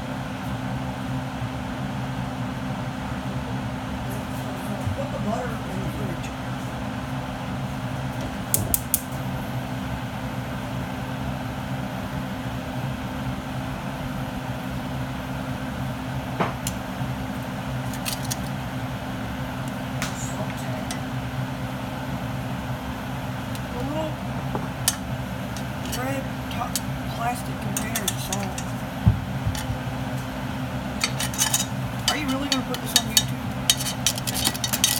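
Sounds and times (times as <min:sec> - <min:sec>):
steady mechanical hum: 0:00.0 - 0:34.9.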